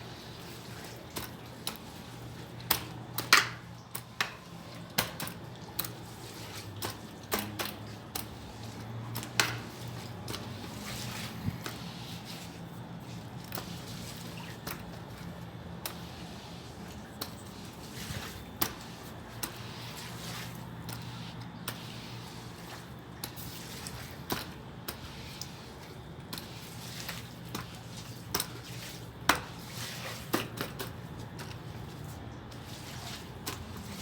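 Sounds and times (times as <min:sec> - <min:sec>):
hose water splashing and dripping: 0:00.0 - 0:34.0.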